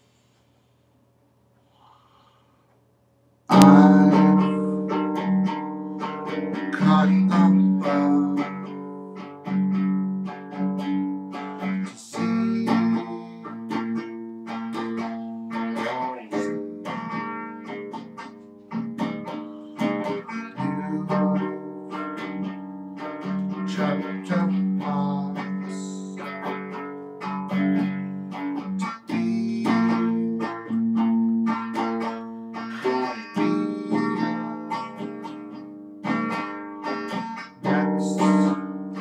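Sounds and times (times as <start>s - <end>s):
solo guitar playing: 3.5s - 39.0s.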